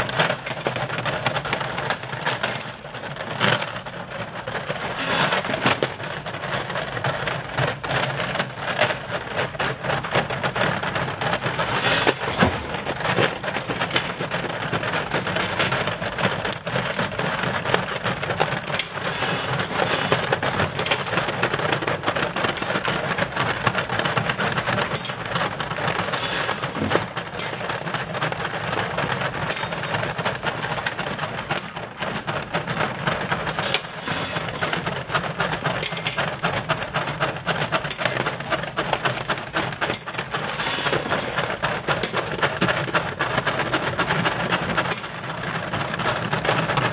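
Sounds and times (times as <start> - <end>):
metal parts clattering: 0.0 - 46.9.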